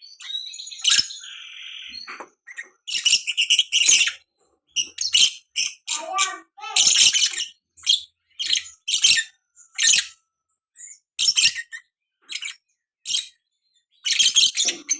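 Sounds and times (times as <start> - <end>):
bird high chirps: 0.0 - 14.9.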